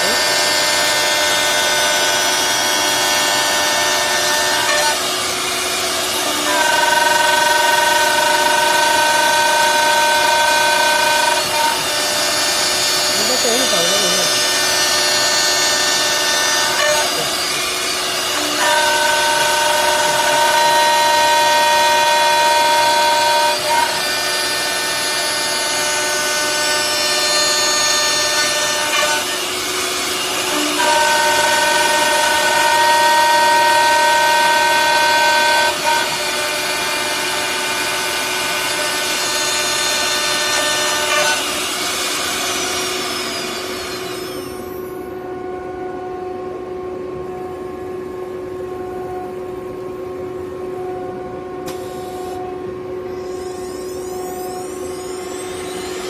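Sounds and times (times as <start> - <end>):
router spindles whining cutting wood: 0.0 - 48.2, 50.8 - 56.0.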